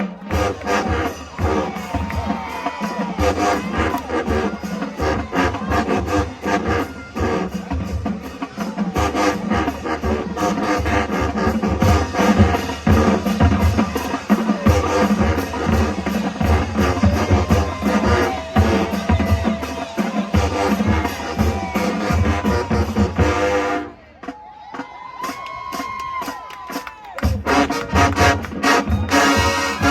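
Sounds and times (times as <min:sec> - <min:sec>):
marching band playing: 0:00.0 - 0:29.9.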